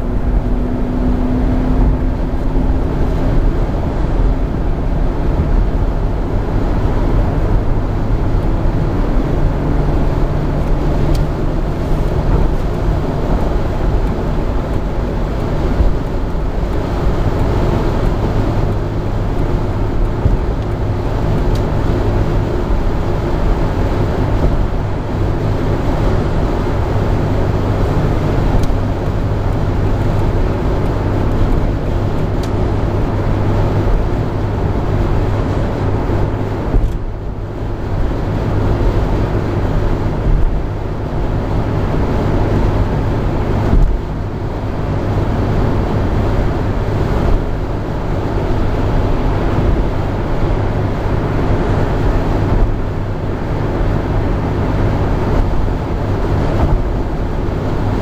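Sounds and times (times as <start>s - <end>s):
low drivetrain hum: 0.0s - 58.0s
tyre and wind noise: 0.0s - 58.0s.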